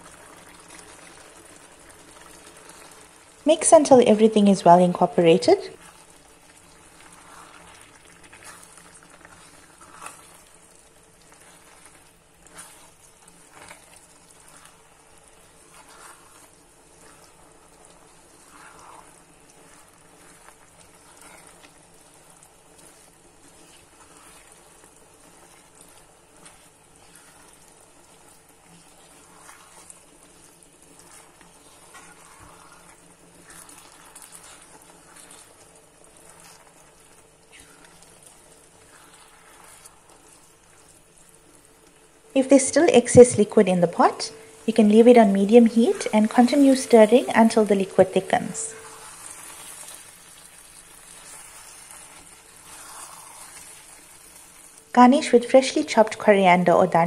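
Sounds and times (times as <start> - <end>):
gentle sizzle from pot: 0.0 - 57.0
wooden spoon scraping pot: 5.7 - 40.9, 43.1 - 56.2.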